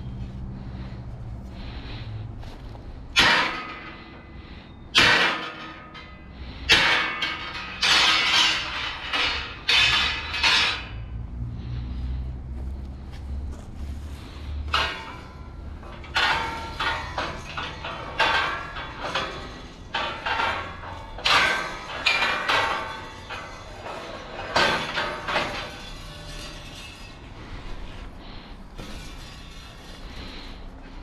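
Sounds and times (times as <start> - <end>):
sharp metallic clanks: 3.1 - 12.0, 14.4 - 31.0.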